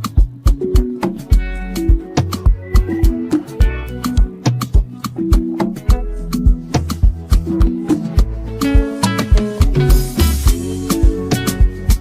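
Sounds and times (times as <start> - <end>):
kick drum beat: 0.0 - 12.0
plucked guitar notes: 0.0 - 12.0.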